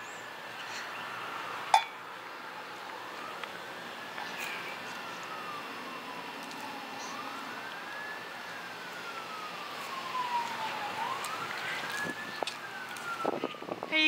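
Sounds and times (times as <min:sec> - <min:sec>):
siren wailing: 0:01.0 - 0:14.0.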